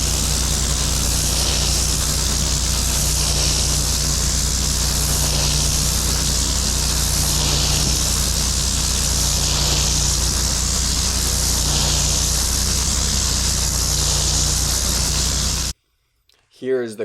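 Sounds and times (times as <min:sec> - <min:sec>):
high-pressure spray hissing: 0:00.0 - 0:15.7
pressure washer engine humming: 0:00.0 - 0:15.7.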